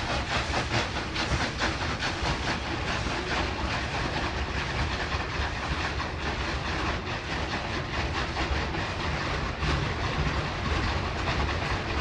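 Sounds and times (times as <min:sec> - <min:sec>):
steam hissing: 0:00.0 - 0:12.0
train wheels clattering: 0:00.0 - 0:12.0.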